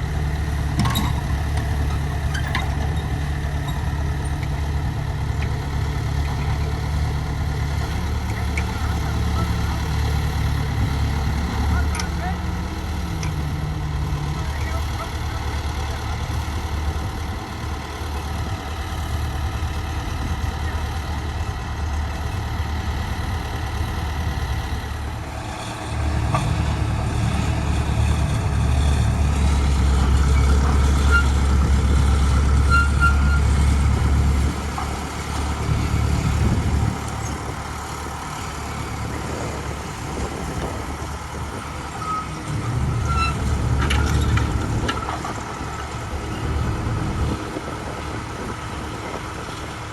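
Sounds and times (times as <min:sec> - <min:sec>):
vehicle engine rumbling: 0:00.0 - 0:49.9.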